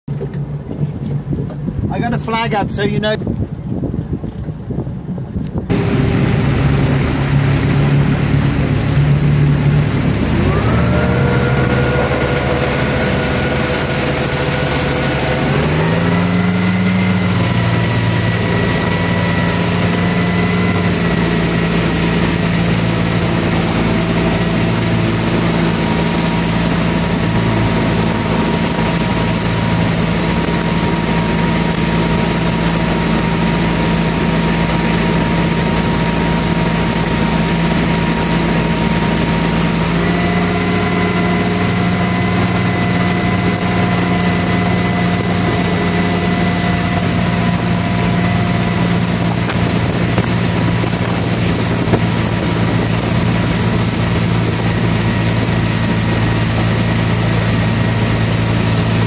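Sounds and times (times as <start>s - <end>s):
motorboat engine: 0.0s - 59.0s
wind and rushing water hiss: 1.1s - 59.0s.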